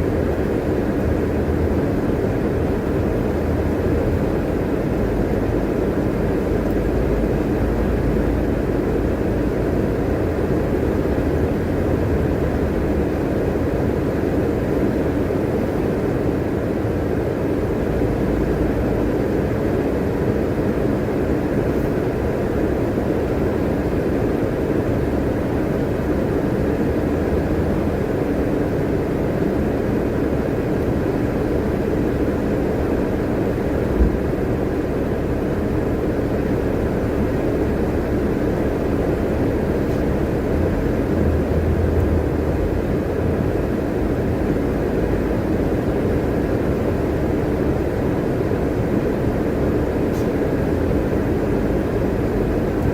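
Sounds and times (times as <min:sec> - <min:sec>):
bus engine and road noise: 0:00.0 - 0:52.9.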